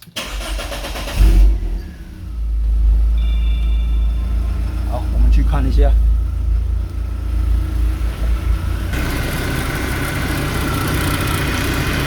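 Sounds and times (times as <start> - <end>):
power steering pump whine: 0.1 - 12.0
car engine idling: 0.2 - 12.0.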